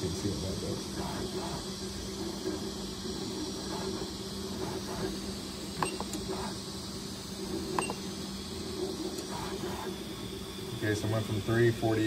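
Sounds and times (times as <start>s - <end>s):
printer motors and fans humming: 0.0s - 12.0s.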